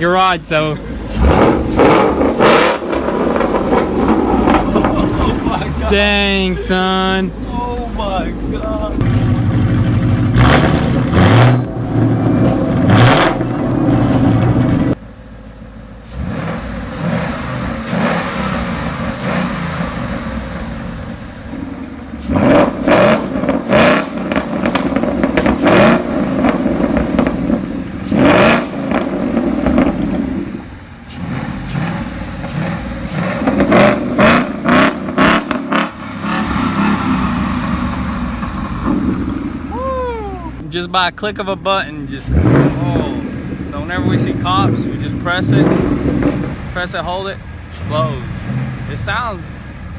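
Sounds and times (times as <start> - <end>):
car engine revving: 0.0 - 49.9
exhaust crackles: 0.0 - 49.9.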